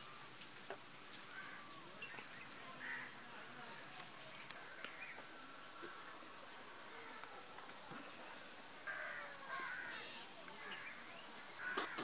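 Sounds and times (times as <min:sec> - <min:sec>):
birds calling and chirping: 0:00.0 - 0:03.8, 0:04.6 - 0:12.0.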